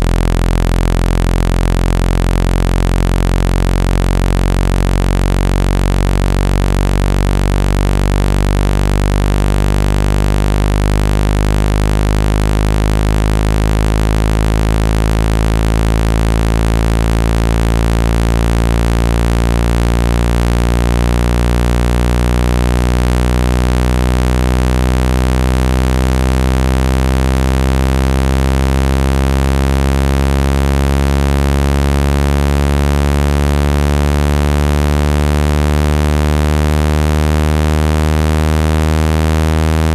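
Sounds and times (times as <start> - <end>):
low electronic buzzing tone: 0.0 - 39.9.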